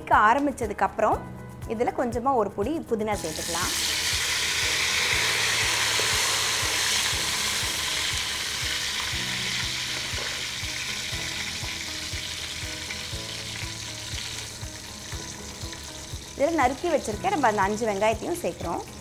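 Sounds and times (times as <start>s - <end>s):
leaves and spices sizzling in oil: 3.2s - 19.0s.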